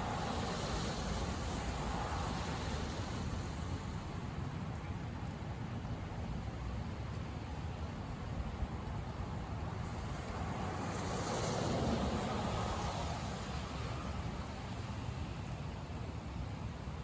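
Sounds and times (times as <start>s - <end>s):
car driving on wet road: 0.0s - 4.8s, 8.0s - 17.0s.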